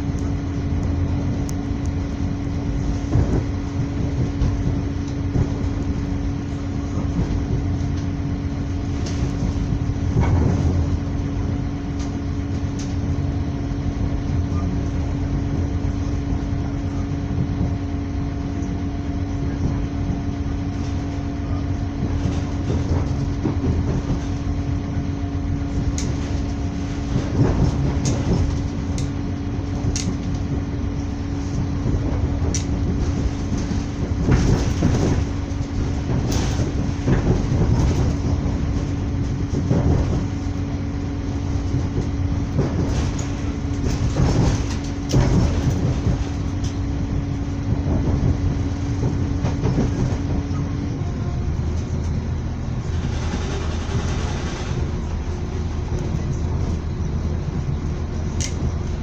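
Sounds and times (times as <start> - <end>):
steady hum: 0.0 - 59.0
train rolling rumble: 0.0 - 59.0
wheels clicking over rail joints: 2.7 - 13.3, 19.4 - 59.0.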